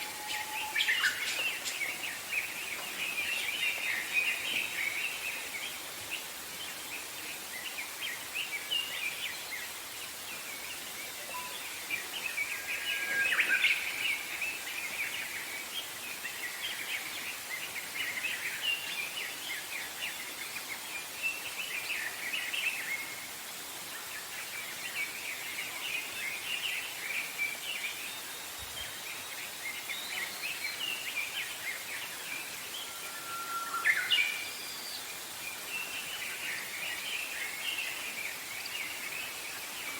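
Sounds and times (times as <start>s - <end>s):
outdoor ambience hiss: 0.0s - 39.9s
songbirds chirping: 0.0s - 39.9s.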